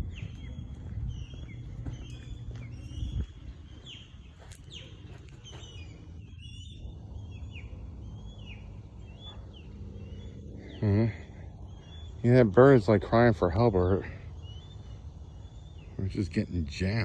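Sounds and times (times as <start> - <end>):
low steady rumble: 0.0 - 16.1
birds chirping: 0.0 - 17.0.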